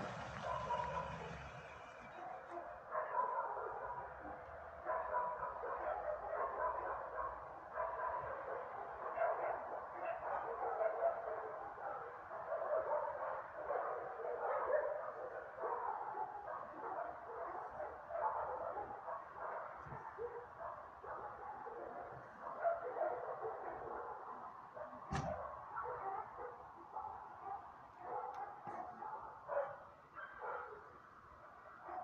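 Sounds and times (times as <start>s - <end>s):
dogs barking: 0.0s - 32.0s.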